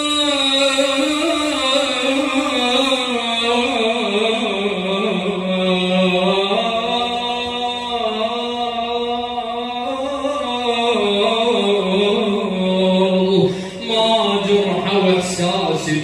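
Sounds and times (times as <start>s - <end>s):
man chanting a lamentation: 0.0s - 16.0s.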